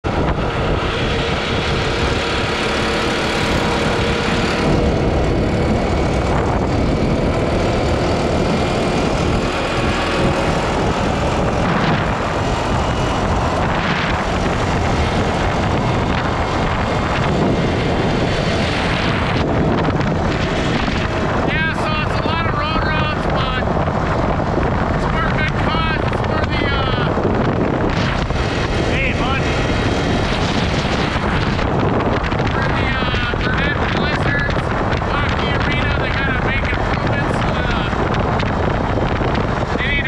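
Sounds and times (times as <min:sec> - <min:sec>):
off-road vehicle engine running: 0:00.0 - 0:40.0
wind rushing: 0:00.0 - 0:40.0.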